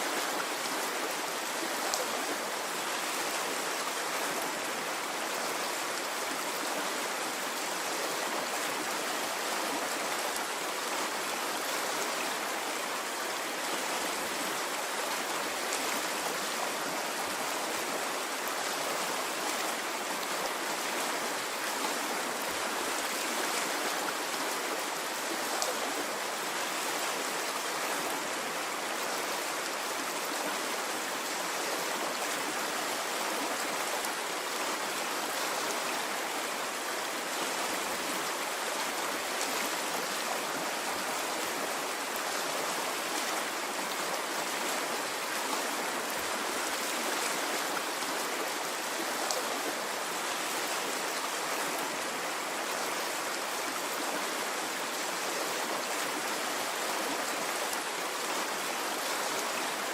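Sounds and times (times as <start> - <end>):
stream of water flowing: 0.0 - 59.9.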